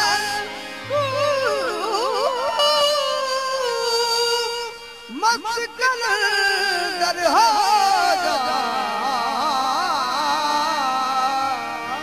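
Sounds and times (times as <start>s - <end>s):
sustained harmonium tones: 0.0s - 12.0s.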